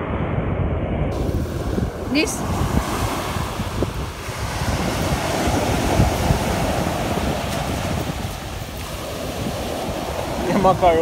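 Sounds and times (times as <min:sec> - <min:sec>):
wind rumbling on microphone: 0:00.0 - 0:11.0
sea surf breaking on shore: 0:01.1 - 0:11.0.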